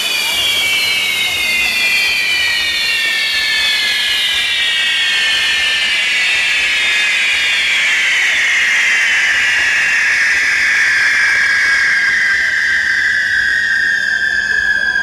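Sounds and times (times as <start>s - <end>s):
shrill firework whistles: 0.0s - 15.0s.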